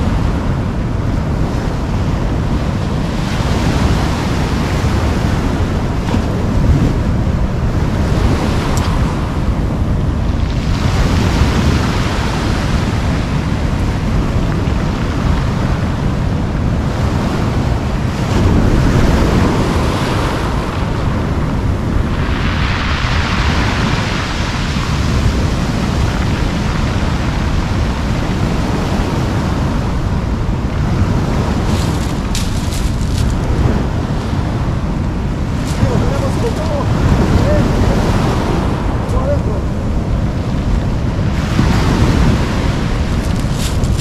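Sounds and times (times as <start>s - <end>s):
surf washing over pebbles: 0.0s - 44.0s
wind buffeting microphone: 0.0s - 44.0s.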